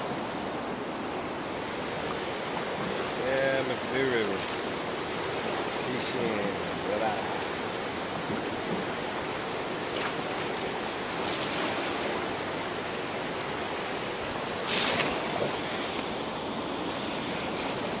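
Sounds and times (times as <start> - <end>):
whitewater river rapids rushing: 0.0 - 18.0.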